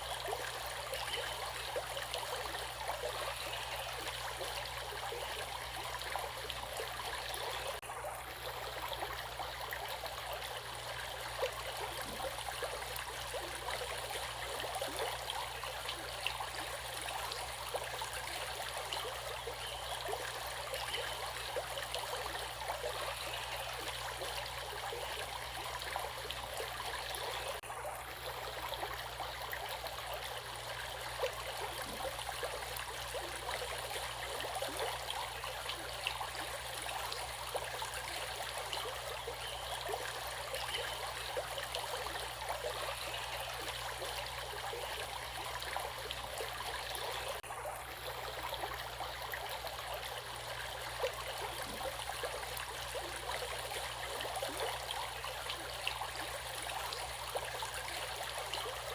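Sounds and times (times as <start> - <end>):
running water flowing: 0.0 - 58.9.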